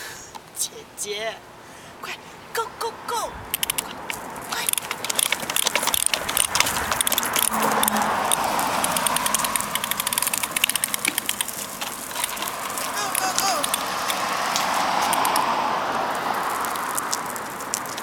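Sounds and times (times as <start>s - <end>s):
tricycle rattling on concrete: 3.6s - 18.0s.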